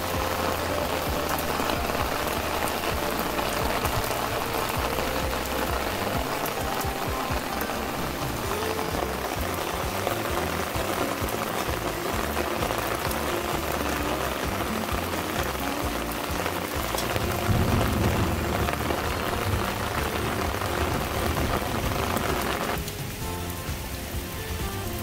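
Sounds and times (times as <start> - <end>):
rain on plants and pots: 0.0 - 25.0
soft background music: 0.0 - 25.0.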